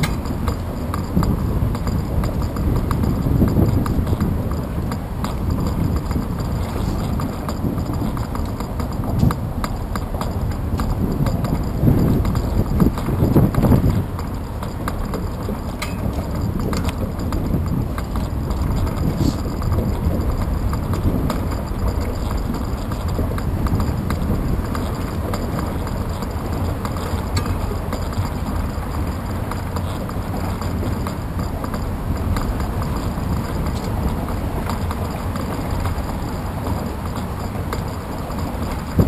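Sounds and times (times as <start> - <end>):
bicycle riding on concrete: 0.0 - 39.0
small knocks and rattles: 0.0 - 39.0.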